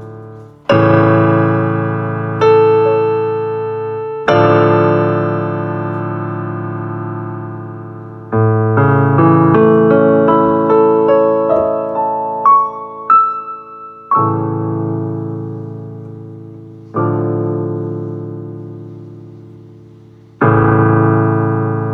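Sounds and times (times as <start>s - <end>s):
slow piano piece: 0.0s - 21.9s.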